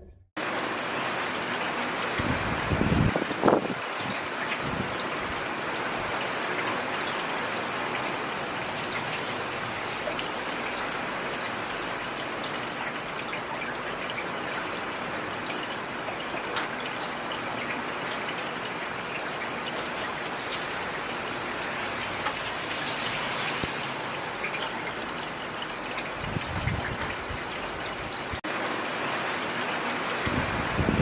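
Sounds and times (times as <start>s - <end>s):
rain patter: 0.4s - 31.0s.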